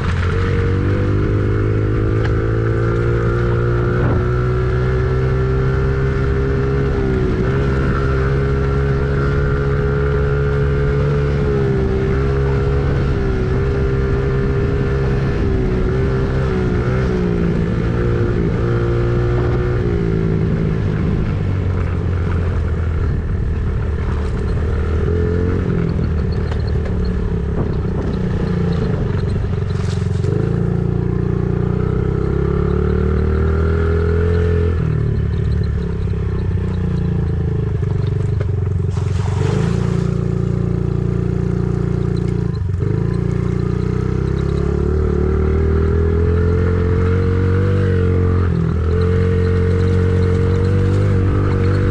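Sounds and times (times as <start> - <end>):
engine running under varying load: 0.0 - 51.9.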